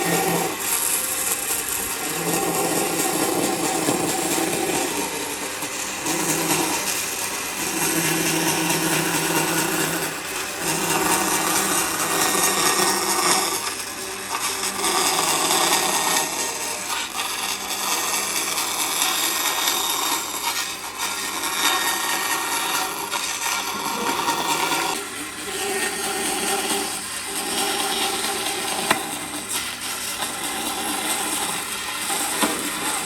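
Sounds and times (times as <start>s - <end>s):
power tool cutting wood: 0.0s - 33.0s.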